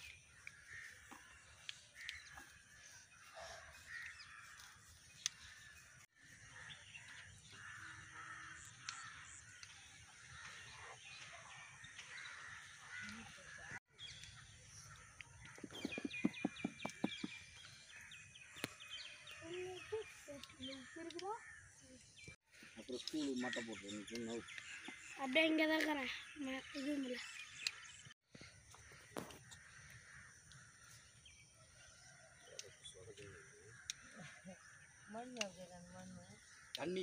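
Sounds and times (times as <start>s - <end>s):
birds calling: 0.0s - 37.0s
rapid repeated bird calls: 0.0s - 37.0s.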